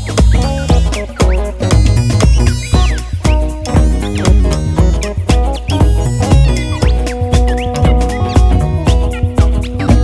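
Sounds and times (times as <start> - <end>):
upbeat music with deep bass: 0.0 - 10.0.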